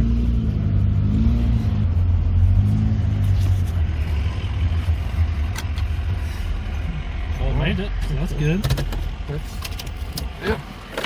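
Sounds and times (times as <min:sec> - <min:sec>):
car engine running: 0:00.2 - 0:11.0.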